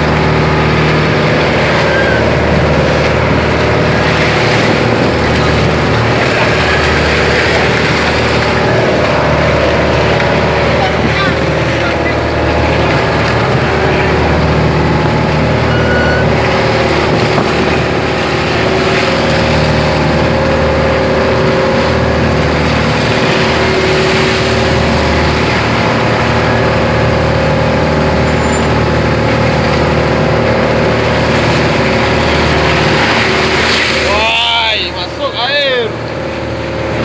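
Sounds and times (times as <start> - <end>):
boat engine humming: 0.0 - 37.0.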